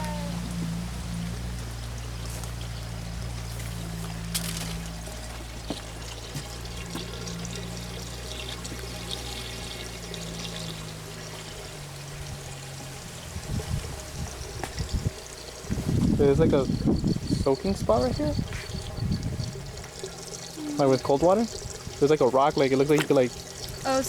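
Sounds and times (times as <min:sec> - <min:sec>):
water pouring into a pool: 0:00.0 - 0:24.0.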